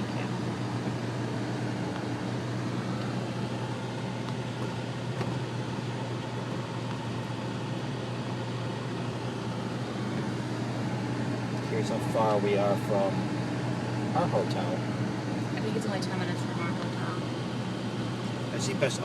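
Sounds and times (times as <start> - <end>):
car cabin drone: 0.0 - 19.0.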